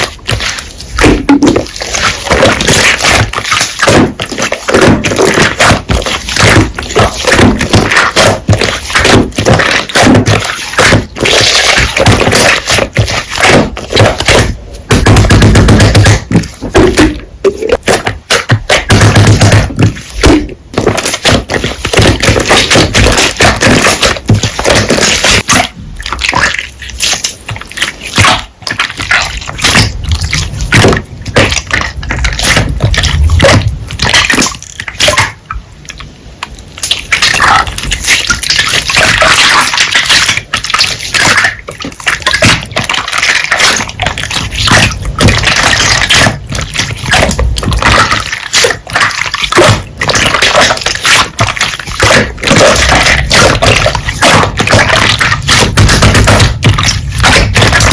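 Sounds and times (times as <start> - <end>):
hands squishing slime: 0.0 - 57.9.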